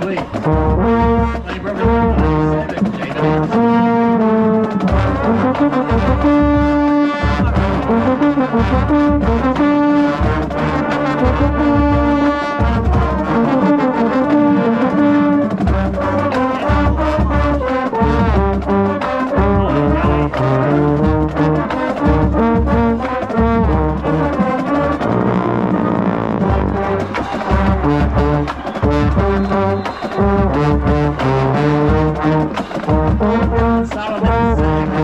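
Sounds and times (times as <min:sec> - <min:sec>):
baritone horn: 0:00.0 - 0:35.0
brass band trombone fanfare: 0:00.0 - 0:35.0.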